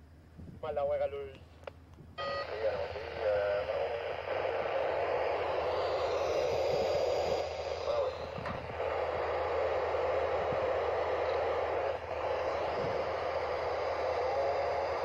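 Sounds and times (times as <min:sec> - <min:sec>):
freight locomotives passing: 0:02.2 - 0:15.0.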